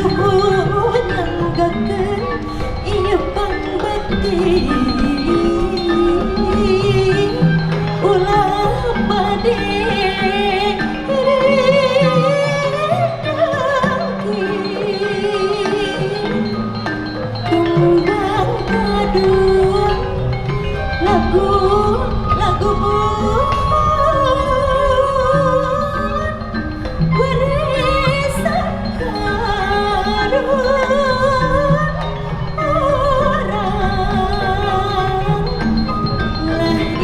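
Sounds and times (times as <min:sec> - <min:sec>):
gamelan ensemble playing: 0:00.0 - 0:37.0.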